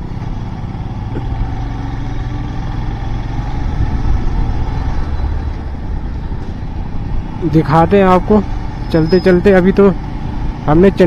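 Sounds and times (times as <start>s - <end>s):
motorcycle engine humming: 0.0s - 11.0s
road noise: 0.0s - 11.0s.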